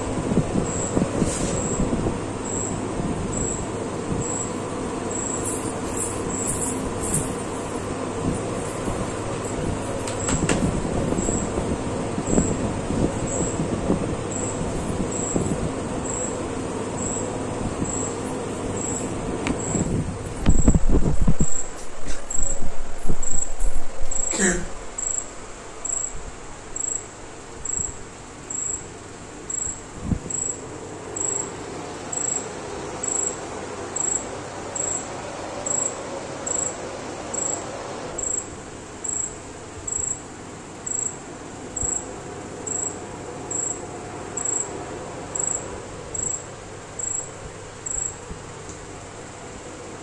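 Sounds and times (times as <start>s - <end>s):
cricket chirping: 0.2s - 50.0s.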